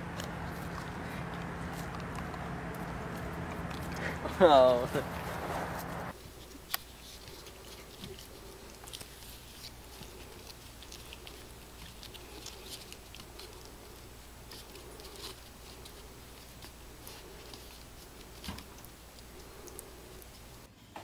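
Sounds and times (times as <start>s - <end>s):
paws and claws scrabbling: 0.0s - 20.7s
puppies scuffling and play-biting: 0.0s - 20.7s
faint steady hum: 0.0s - 21.0s.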